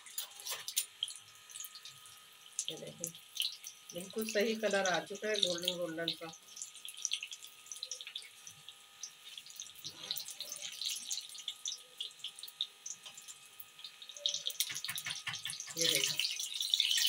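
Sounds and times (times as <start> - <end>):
deep-frying sizzle with pops: 0.0 - 17.0.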